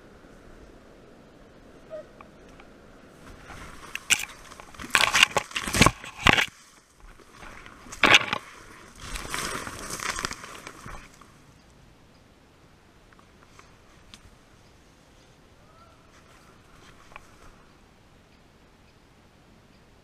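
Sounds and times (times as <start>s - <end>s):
branches rustling against clothing: 0.0s - 18.3s.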